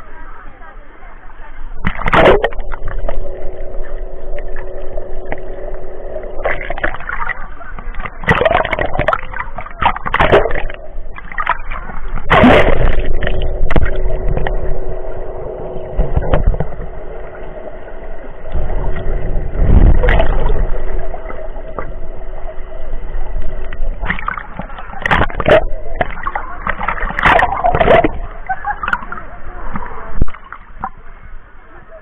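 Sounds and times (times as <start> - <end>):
muffled underwater sloshing: 0.0 - 32.0
steady low hum: 0.0 - 32.0.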